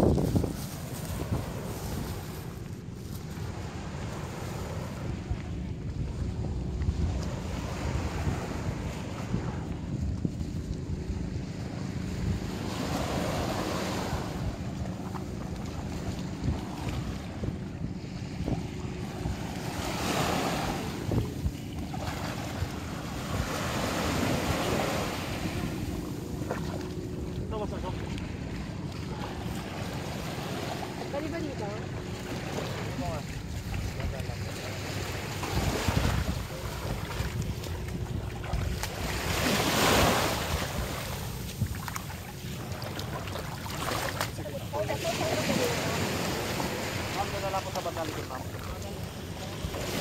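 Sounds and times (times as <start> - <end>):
small waves washing in: 0.0 - 50.0
wind rumble on microphone: 0.0 - 50.0.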